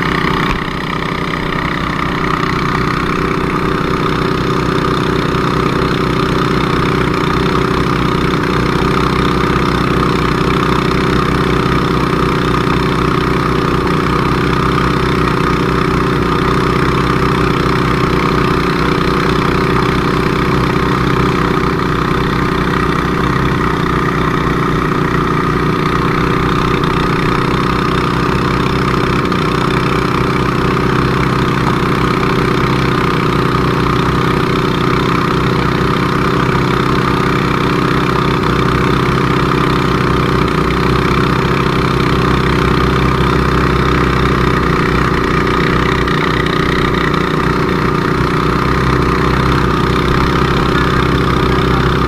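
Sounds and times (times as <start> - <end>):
pump engine running steadily: 0.0 - 52.0.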